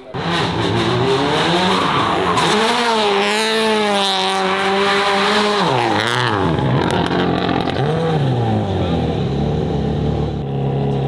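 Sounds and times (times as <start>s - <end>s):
tyres squealing: 0.0s - 9.3s
race car engine revving: 0.0s - 11.0s.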